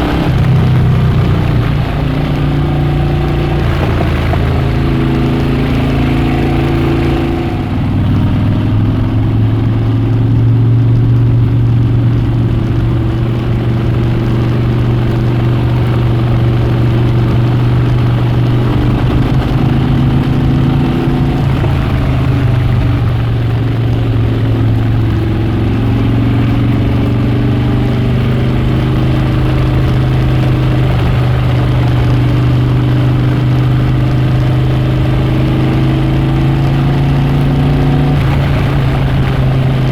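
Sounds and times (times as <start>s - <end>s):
motorcycle engine and exhaust running: 0.0s - 39.9s.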